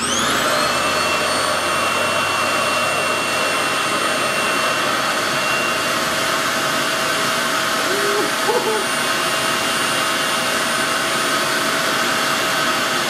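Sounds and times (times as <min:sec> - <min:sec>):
hair dryer whine and air rush: 0:00.0 - 0:13.0.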